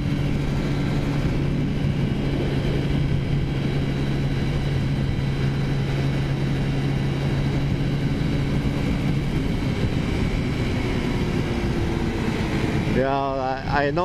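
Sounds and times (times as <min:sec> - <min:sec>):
scooter engine running: 0:00.0 - 0:14.0
wind rush: 0:00.0 - 0:14.0.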